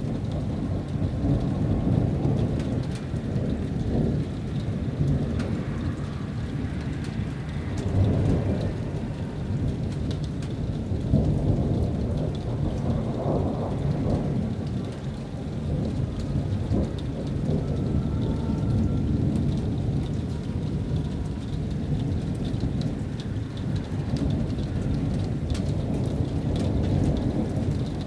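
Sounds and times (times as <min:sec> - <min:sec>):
rain falling: 0:00.0 - 0:28.0
thunder rumbling: 0:00.1 - 0:28.0.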